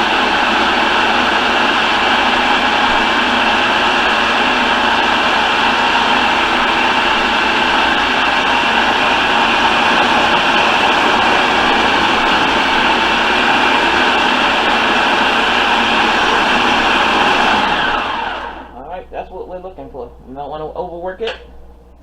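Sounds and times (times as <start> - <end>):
food processor motor running: 0.0 - 18.7.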